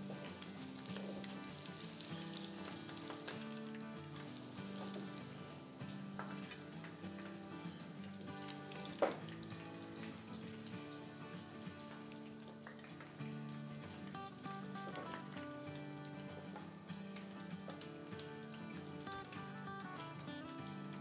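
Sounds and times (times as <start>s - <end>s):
fish sizzling in a frying pan: 0.0s - 21.0s
soft background music: 0.0s - 21.0s.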